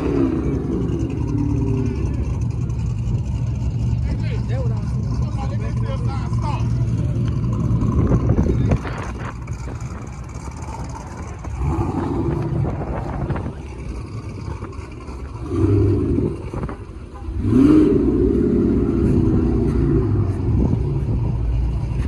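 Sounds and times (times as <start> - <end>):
car engines idling and revving: 0.0 - 22.0.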